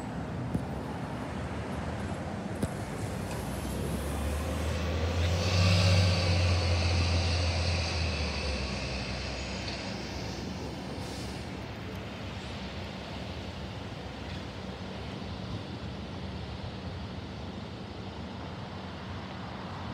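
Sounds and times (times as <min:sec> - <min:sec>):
bus driving past: 0:00.0 - 0:19.9.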